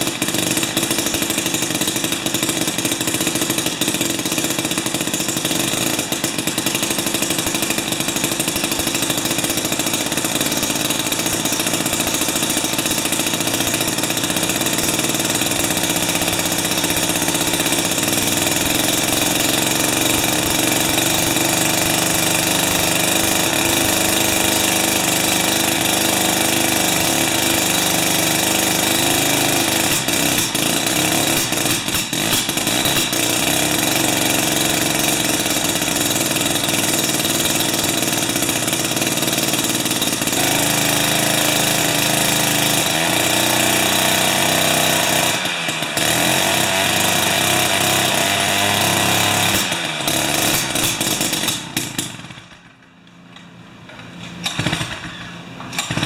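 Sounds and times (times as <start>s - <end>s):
ice auger engine running: 0.0s - 52.8s, 54.4s - 56.0s.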